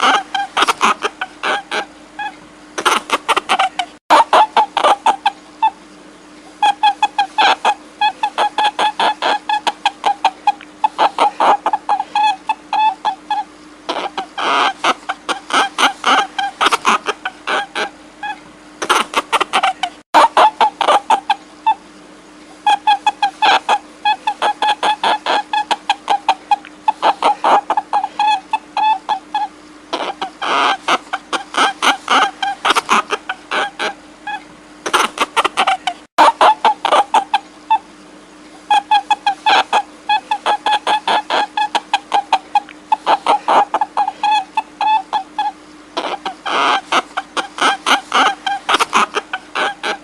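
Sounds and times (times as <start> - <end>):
harsh animal calls: 0.0 - 5.8, 6.5 - 21.8, 22.5 - 37.9, 38.5 - 50.0
steady low hum: 0.0 - 50.0.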